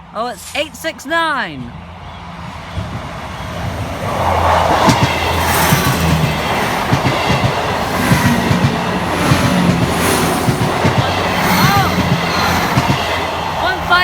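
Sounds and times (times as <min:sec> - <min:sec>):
train engines humming: 0:00.0 - 0:14.0
train wheels clacking on rails: 0:01.7 - 0:14.0.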